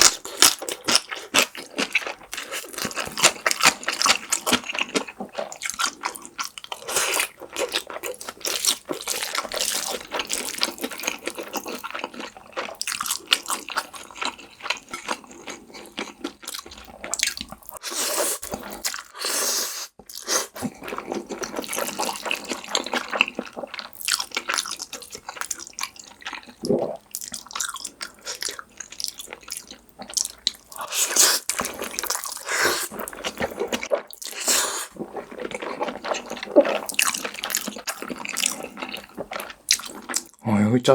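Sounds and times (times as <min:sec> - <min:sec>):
wet chewing and slurping: 0:00.0 - 0:40.4.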